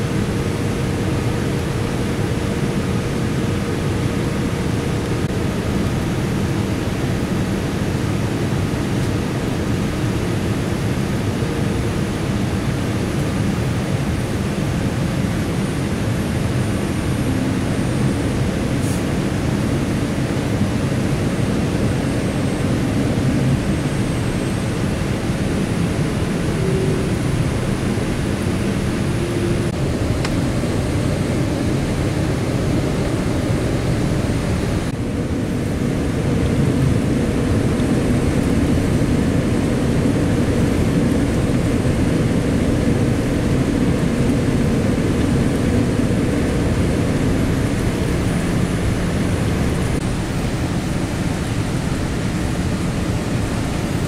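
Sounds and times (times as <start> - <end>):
airliner cabin engine noise: 0.0 - 54.0.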